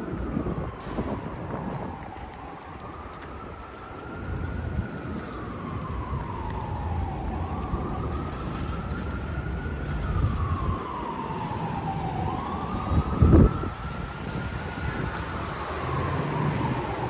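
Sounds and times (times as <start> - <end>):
emergency vehicle siren wailing: 0.0 - 17.0
street traffic rumble: 0.0 - 17.0.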